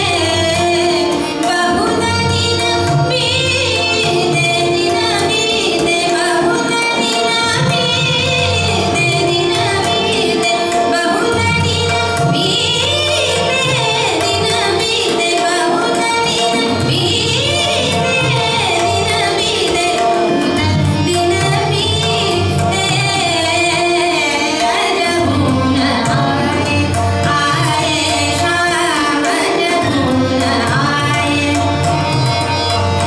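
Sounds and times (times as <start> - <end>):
woman singing classical vocals: 0.0 - 31.6
tabla: 0.0 - 33.0.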